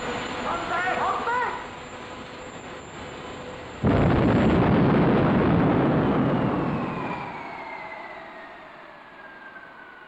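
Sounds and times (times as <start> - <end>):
jet engine roar: 0.0 - 10.0
turbine whine falling in pitch: 0.0 - 10.0.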